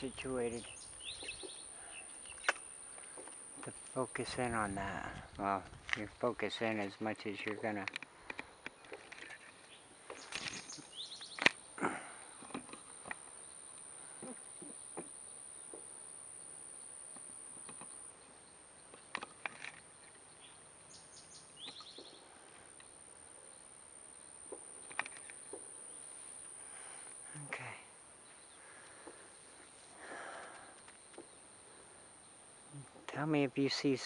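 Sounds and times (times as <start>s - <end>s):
high-pitched insect trilling: 0.0s - 7.9s, 8.8s - 34.0s.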